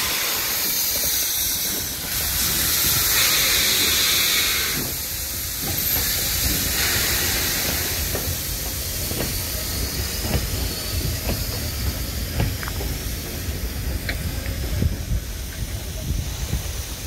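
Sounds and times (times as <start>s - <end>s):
steam hissing: 0.0s - 17.0s
steam locomotive rumbling: 0.0s - 17.0s.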